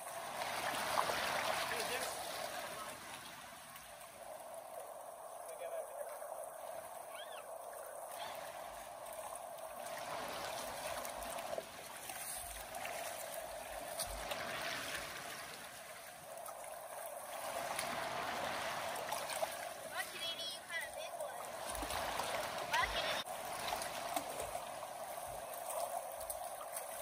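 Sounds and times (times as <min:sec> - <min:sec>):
river current rushing: 0:00.0 - 0:27.0.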